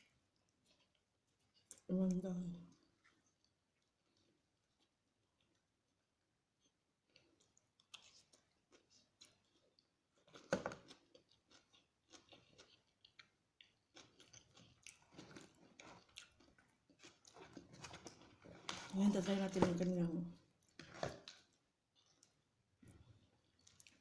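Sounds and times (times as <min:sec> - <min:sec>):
person chewing crunchy food: 0:00.0 - 0:01.9, 0:02.7 - 0:05.8, 0:06.6 - 0:18.9, 0:20.5 - 0:24.0.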